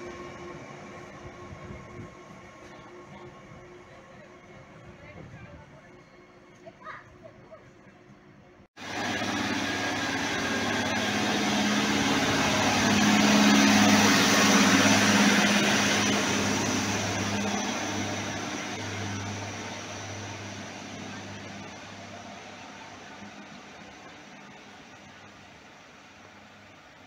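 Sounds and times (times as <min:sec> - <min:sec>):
diesel engine low hum: 0:00.0 - 0:27.0
moving train noise: 0:00.0 - 0:27.0.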